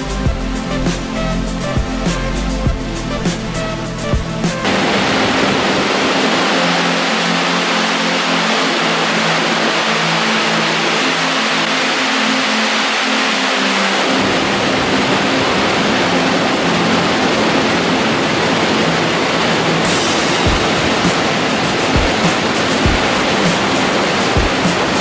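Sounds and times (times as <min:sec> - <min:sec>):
waterfall rushing: 0:03.1 - 0:25.0.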